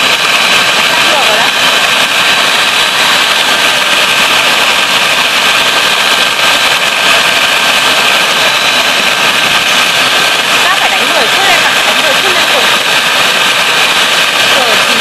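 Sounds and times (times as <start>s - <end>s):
electric mixer beating eggs: 0.0s - 15.0s.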